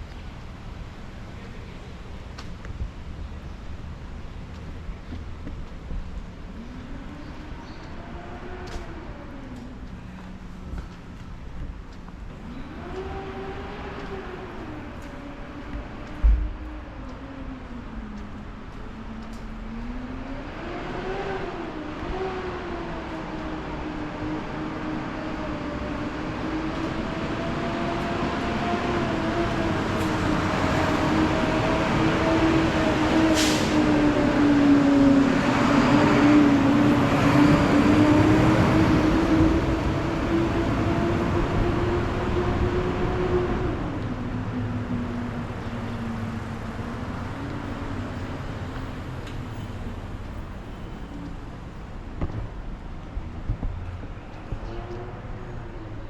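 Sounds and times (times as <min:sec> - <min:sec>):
vehicle droning: 0:00.0 - 0:56.0.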